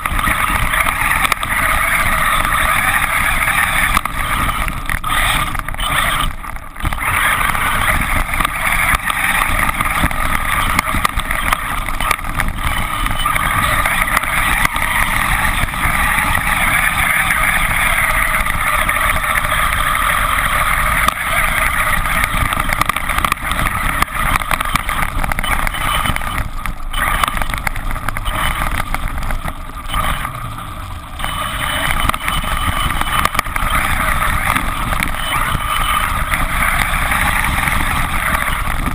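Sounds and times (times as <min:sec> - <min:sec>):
rc truck electric motor: 0:00.0 - 0:38.9.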